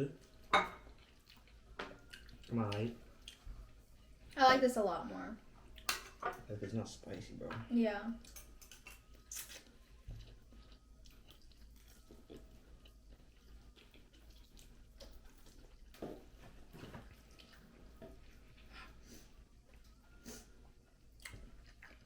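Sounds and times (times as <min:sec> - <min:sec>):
faint chewing and mouth sounds: 0:00.0 - 0:04.5, 0:05.4 - 0:06.1, 0:06.8 - 0:22.0.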